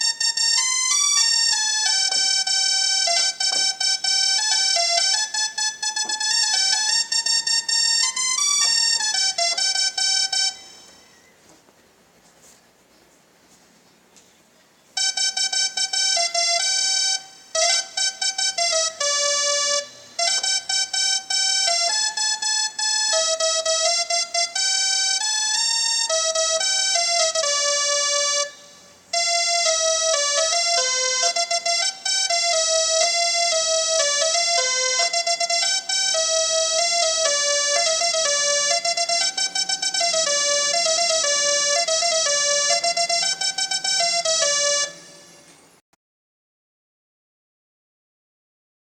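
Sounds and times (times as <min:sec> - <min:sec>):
electronic musical horn melody: 0:00.0 - 0:11.4, 0:14.9 - 0:45.8.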